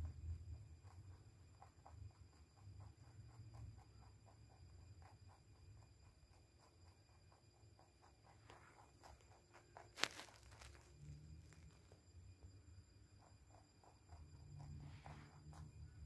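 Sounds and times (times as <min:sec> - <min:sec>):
rabbit chewing carrot: 0:00.0 - 0:16.0.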